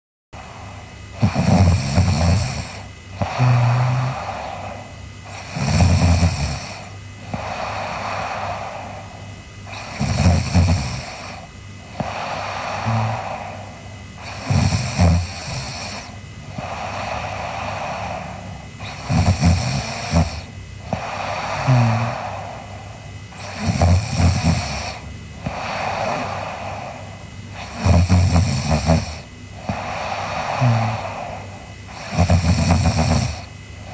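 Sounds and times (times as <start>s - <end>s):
girl snoring: 0.4s - 33.9s.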